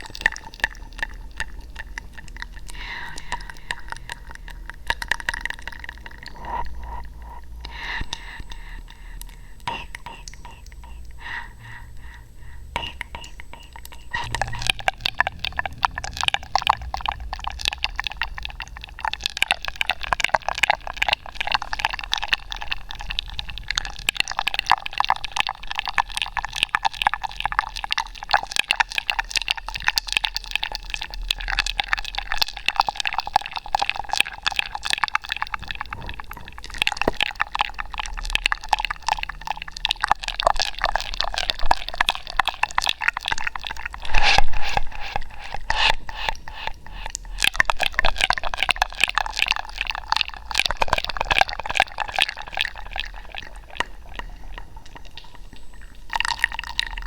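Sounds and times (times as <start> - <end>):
wet mouth clicks and smacks: 0.0 - 11.2, 12.8 - 57.0.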